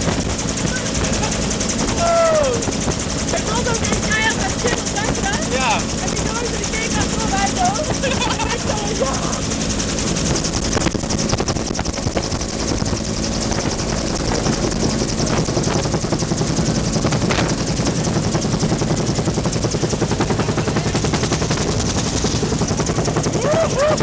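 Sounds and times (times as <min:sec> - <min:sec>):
helicopter rotor chopping: 0:00.0 - 0:24.0.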